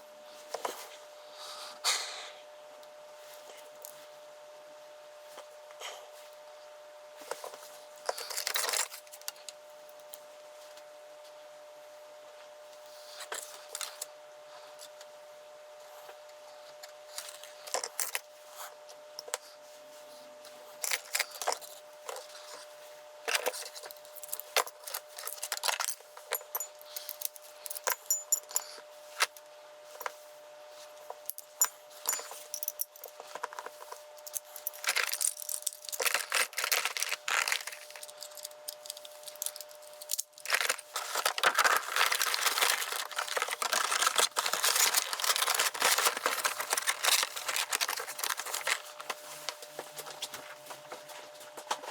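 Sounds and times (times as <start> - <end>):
faint steady hum: 0.0 - 51.9.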